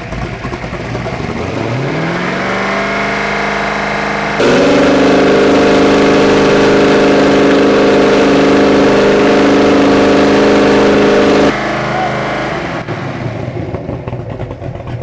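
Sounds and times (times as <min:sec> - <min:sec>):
boat engine revving high: 0:00.8 - 0:14.2.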